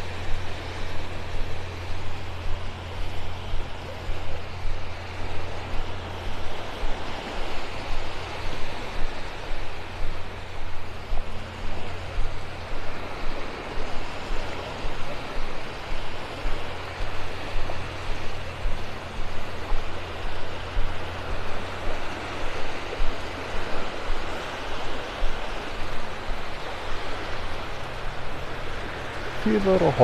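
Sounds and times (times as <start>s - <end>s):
surf washing in: 0.0s - 30.0s
wind buffeting microphone: 0.0s - 30.0s.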